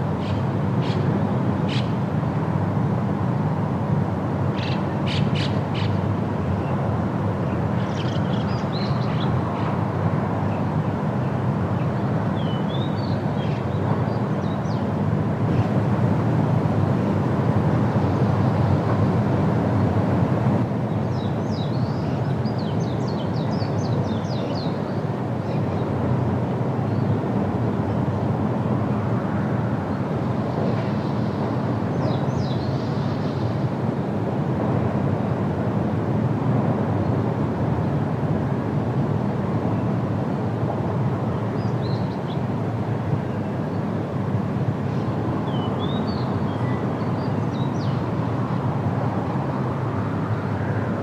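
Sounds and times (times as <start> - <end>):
wind rushing through trees: 0.0 - 51.0.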